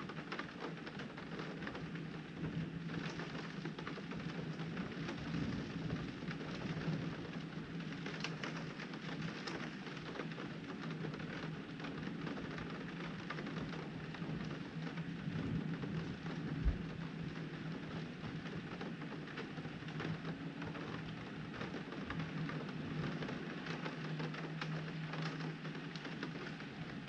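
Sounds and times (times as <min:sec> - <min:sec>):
heavy rain on window: 0:00.0 - 0:27.0.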